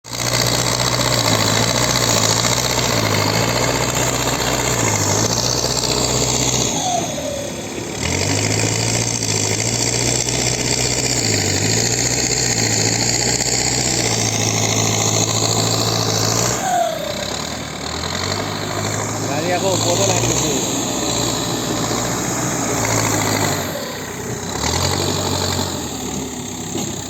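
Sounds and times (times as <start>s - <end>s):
heavy diesel engine running: 0.0s - 27.0s
machinery rattling: 0.1s - 27.0s.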